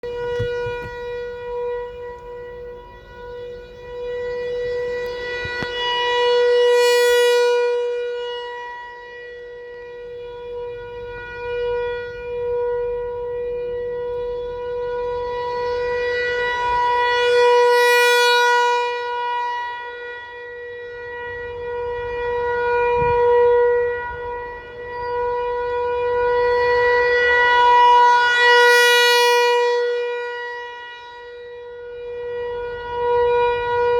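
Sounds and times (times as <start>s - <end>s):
rotating warning siren steady tone: 0.0s - 33.9s.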